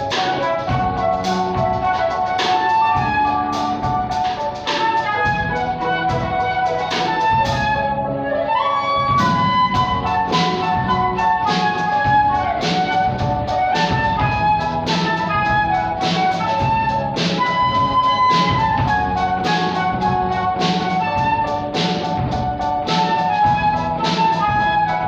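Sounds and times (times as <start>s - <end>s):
drum kit beat: 0.0s - 8.0s, 9.0s - 25.0s
flute playing pop melody: 0.0s - 25.0s
piano accompaniment: 0.0s - 25.0s.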